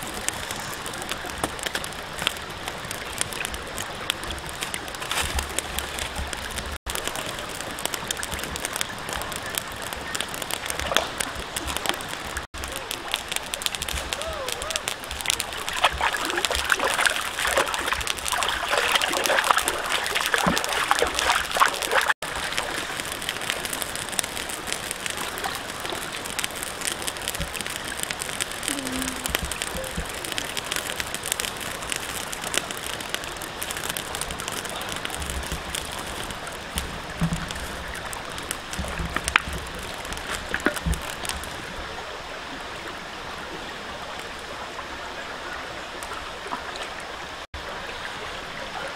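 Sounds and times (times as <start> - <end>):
stream running over rocks: 0.0 - 48.9
water splashing: 0.0 - 48.9.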